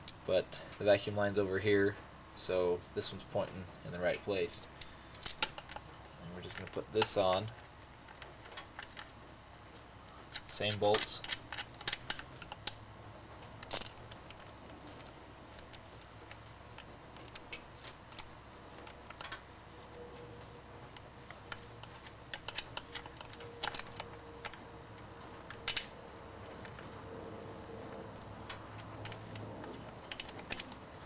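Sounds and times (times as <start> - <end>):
metallic clicks of tools: 3.5 - 9.6, 10.3 - 12.8, 13.5 - 31.0.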